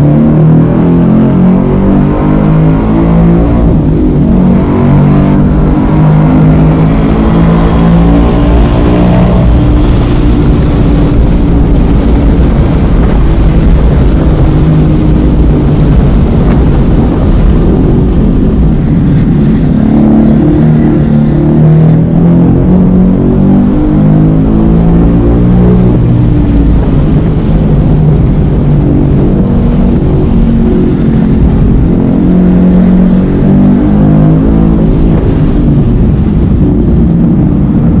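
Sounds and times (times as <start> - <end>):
car engine at high speed: 0.0 - 38.0
wind noise: 0.0 - 38.0.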